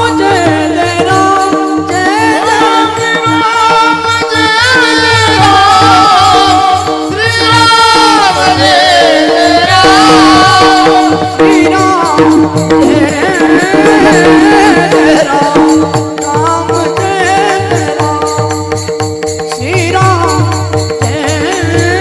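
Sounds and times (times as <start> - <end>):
hand drum beat: 0.0 - 22.0
rattling percussion: 0.0 - 22.0.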